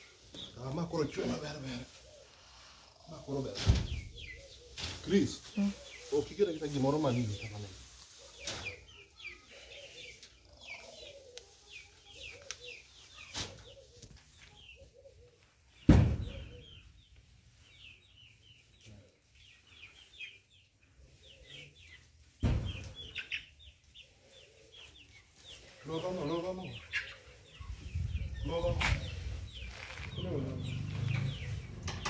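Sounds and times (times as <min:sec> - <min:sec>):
poultry chirping: 0:00.0 - 0:32.0.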